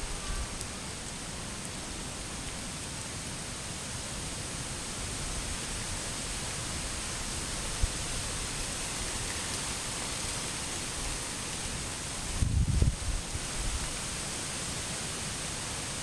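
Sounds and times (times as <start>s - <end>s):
distant waterfall hissing: 0.0s - 16.0s.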